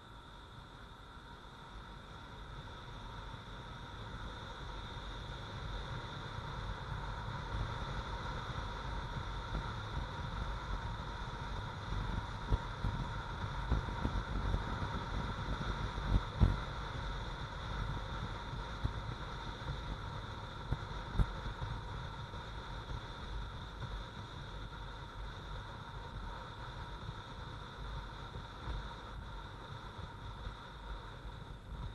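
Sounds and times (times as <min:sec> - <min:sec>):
wind rumble on microphone: 0:00.0 - 0:31.9.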